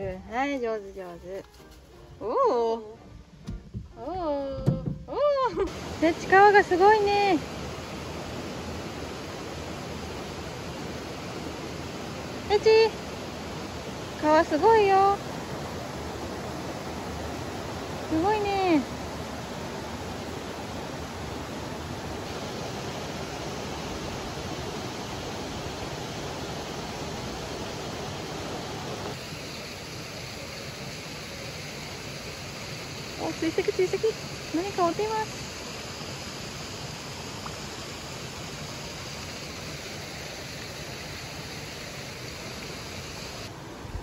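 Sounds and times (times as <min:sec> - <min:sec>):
stream running over rocks: 0:03.4 - 0:44.0
river rushing: 0:05.7 - 0:44.0.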